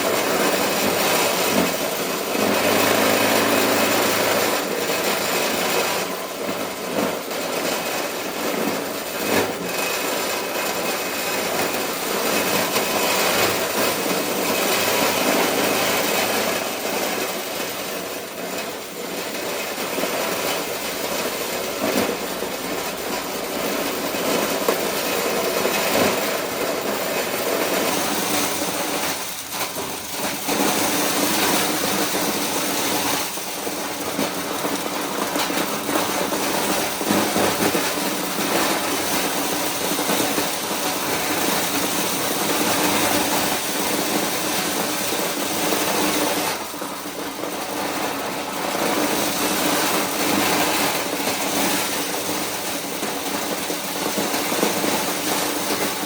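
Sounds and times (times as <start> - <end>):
corn separating machine running: 0.0 - 56.0.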